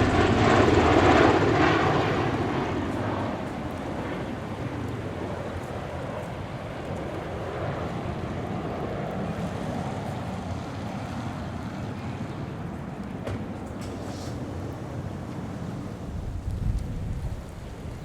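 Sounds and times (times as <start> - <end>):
distant aircraft drone: 0.0 - 18.0.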